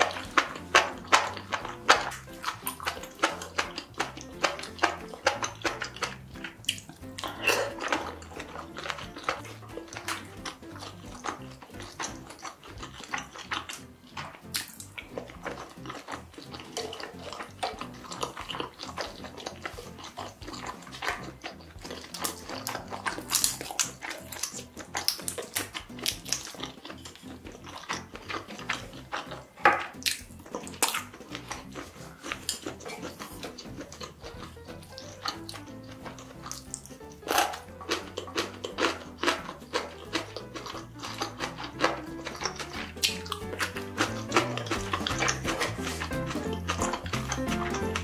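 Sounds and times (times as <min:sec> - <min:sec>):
sauce-coated food squelching: 0:00.0 - 0:48.0
wet chewing and lip smacks: 0:00.0 - 0:48.0.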